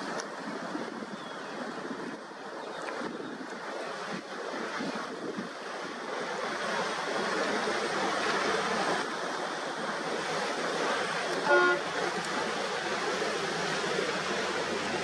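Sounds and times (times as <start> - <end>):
waves and rushing water: 0.0 - 15.0
wind buffeting microphone: 0.0 - 15.0.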